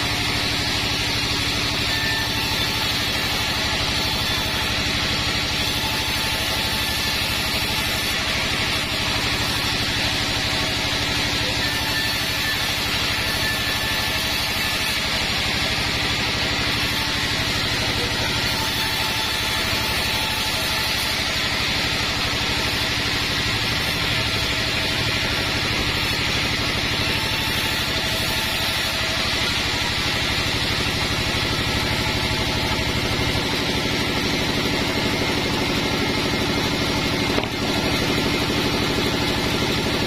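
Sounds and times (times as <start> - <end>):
sawmill machinery drone: 0.0 - 40.0.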